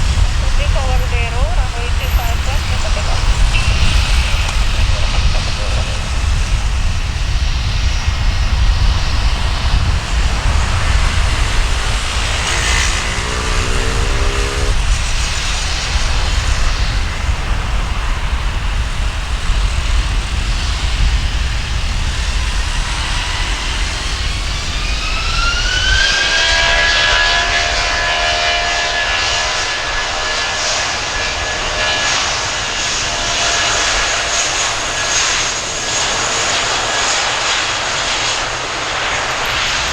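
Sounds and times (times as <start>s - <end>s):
jet engine whine rising: 0.0s - 39.9s
jet engines rumbling: 0.0s - 39.9s.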